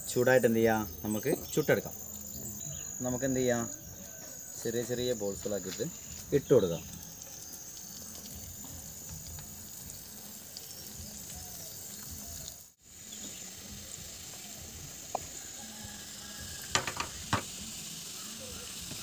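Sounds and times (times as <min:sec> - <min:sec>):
hot oil sizzling and bubbling: 0:00.0 - 0:19.0.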